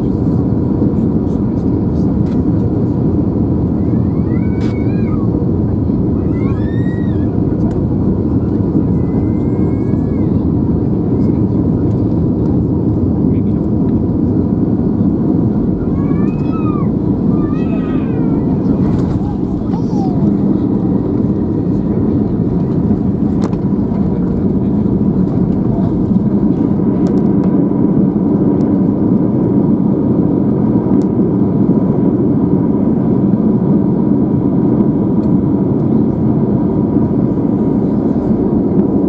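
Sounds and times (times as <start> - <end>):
low rumble of aircraft engines: 0.0 - 39.0.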